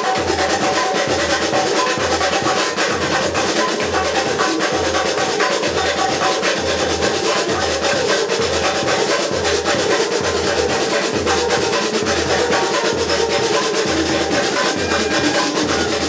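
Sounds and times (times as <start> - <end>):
samba dance music: 0.0 - 16.0.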